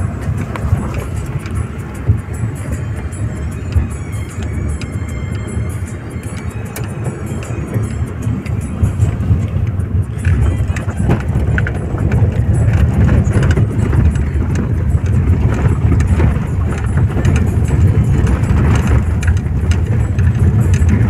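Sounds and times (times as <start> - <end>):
gravel clicking under wheels: 0.0 - 21.0
tyres and engine rumbling: 0.0 - 21.0.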